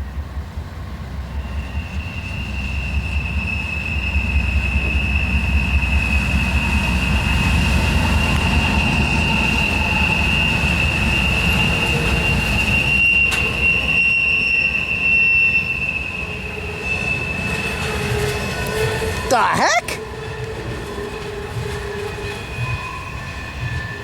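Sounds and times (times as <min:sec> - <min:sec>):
train wheels rumbling on rails: 0:00.0 - 0:24.0
train wheels squealing: 0:00.0 - 0:24.0.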